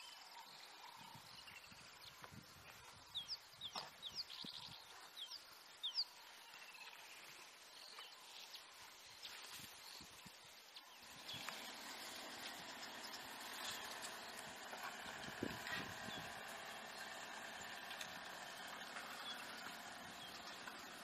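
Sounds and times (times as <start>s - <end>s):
birds chirping: 0.0s - 21.0s
faint outdoor background: 0.0s - 21.0s.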